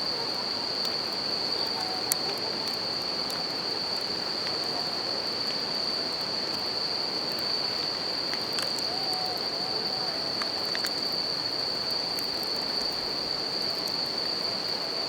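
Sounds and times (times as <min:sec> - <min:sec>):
crickets trilling: 0:00.0 - 0:15.0
campfire crackling: 0:00.1 - 0:15.0.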